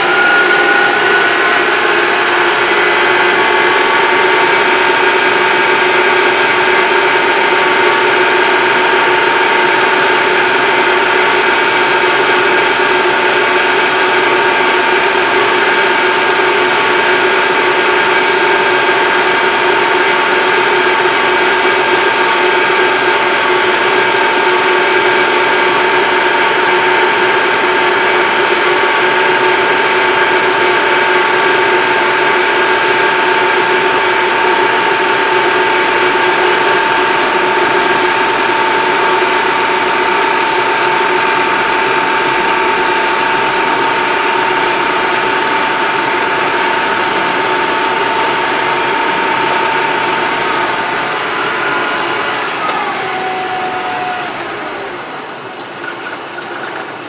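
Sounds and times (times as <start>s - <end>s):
tractor engine running: 0.0s - 57.0s
transmission whine: 0.0s - 57.0s.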